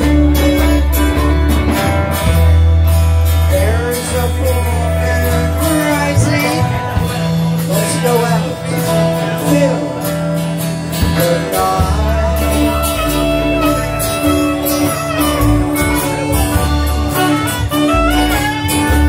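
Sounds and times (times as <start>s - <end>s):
vocals: 0.0s - 1.7s, 3.1s - 17.8s
bass line: 0.0s - 19.0s
guitars strumming: 0.0s - 19.0s.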